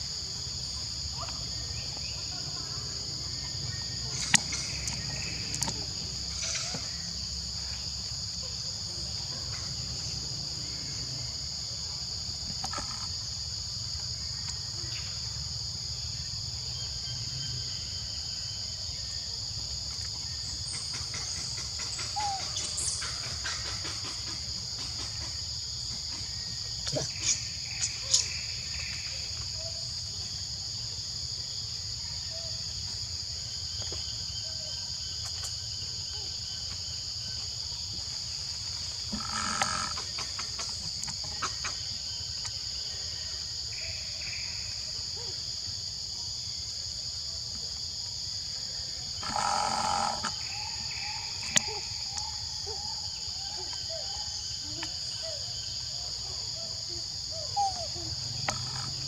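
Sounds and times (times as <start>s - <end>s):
high-pitched insect chorus: 0.0s - 59.0s.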